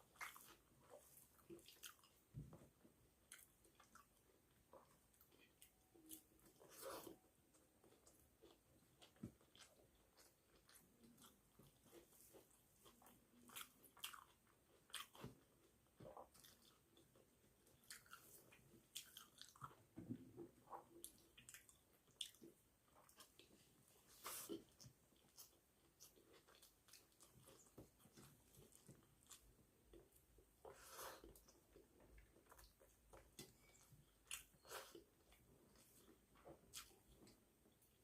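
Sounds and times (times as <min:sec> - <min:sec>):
person chewing: 0:00.0 - 0:02.3, 0:03.2 - 0:38.0.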